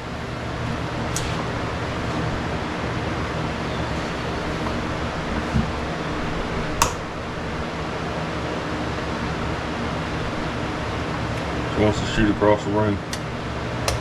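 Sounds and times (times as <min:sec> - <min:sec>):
room ventilation hum: 0:00.0 - 0:14.0.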